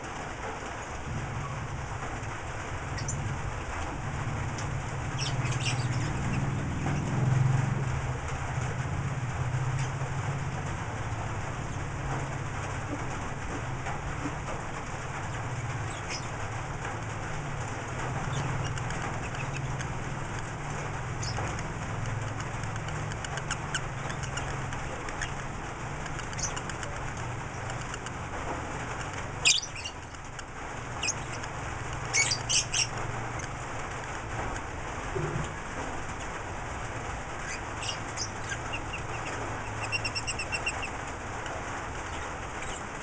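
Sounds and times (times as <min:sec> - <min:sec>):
steady low hum: 0:00.0 - 0:43.0
lovebirds chirping: 0:02.8 - 0:03.4, 0:04.2 - 0:07.2, 0:11.3 - 0:36.5, 0:37.1 - 0:43.0.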